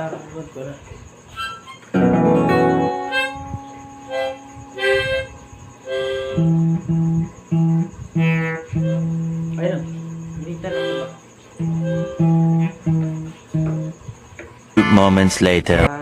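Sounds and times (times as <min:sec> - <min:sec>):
acoustic guitar plucked: 0:01.9 - 0:14.0, 0:14.8 - 0:15.8.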